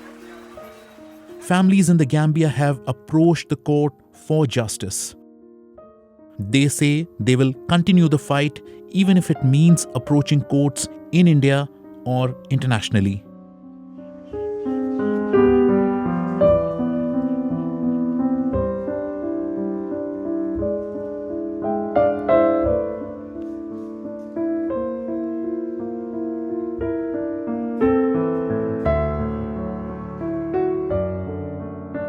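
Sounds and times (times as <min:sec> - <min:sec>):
slow piano chords: 0:00.0 - 0:32.0.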